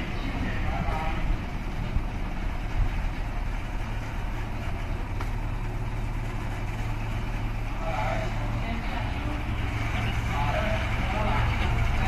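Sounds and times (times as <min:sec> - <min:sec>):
diesel locomotive engine humming: 0:00.0 - 0:12.0.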